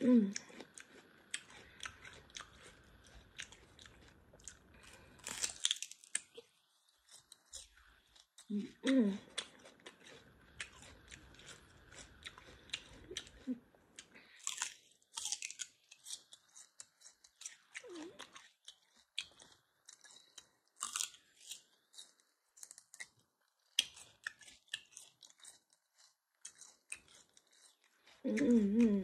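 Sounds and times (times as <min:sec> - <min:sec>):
person chewing chicken wings: 0:00.2 - 0:29.0.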